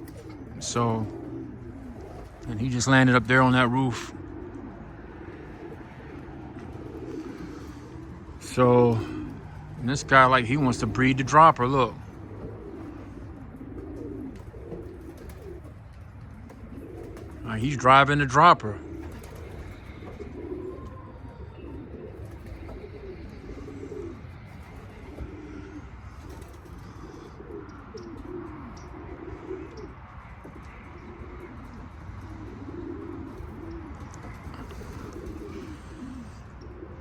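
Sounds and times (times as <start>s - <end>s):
pigeons cooing: 0.0s - 37.0s.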